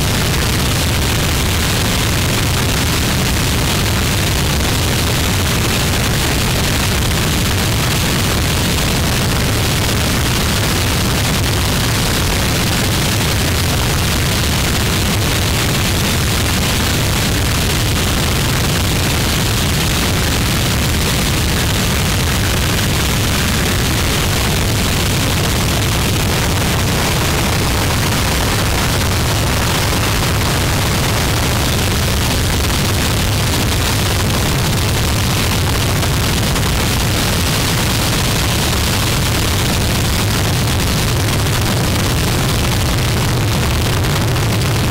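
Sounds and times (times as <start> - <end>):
distorted static noise: 0.0 - 44.9.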